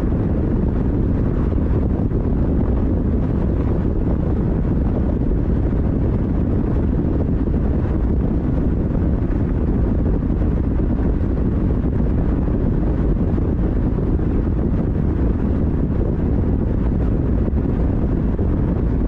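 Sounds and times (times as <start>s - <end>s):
vehicle wind and road noise: 0.0s - 19.0s
wind buffeting microphone: 0.0s - 19.0s.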